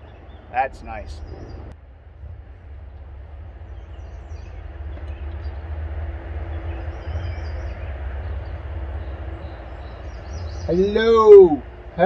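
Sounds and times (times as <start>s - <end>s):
faint steady hum: 0.0s - 12.0s
low rumble: 0.0s - 12.0s.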